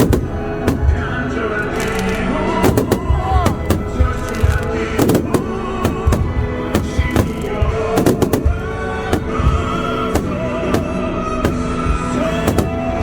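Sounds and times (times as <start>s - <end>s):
fireworks bursting: 0.0s - 13.0s
loud music: 0.0s - 13.0s.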